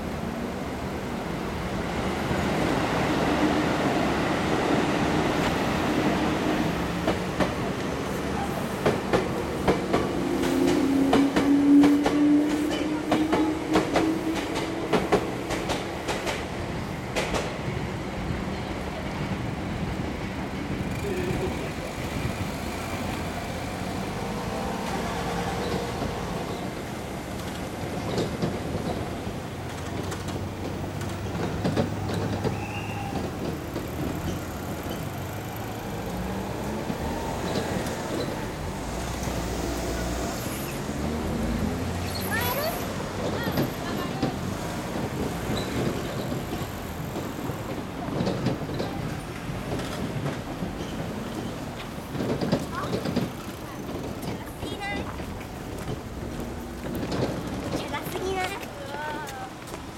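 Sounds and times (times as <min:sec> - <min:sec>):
train rumble: 0:00.0 - 0:59.9
train wheels clacking over rail joints: 0:06.9 - 0:17.6, 0:20.8 - 0:59.9.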